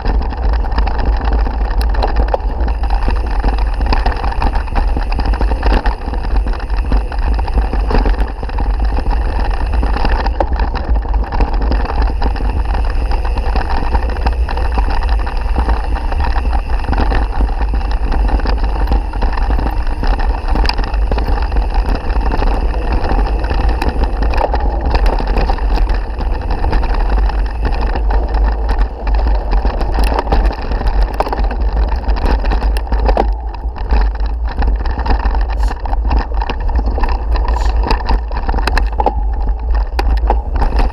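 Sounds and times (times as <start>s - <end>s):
mountain bike rattling and knocking: 0.0s - 40.9s
wind rumble on microphone: 0.0s - 40.9s.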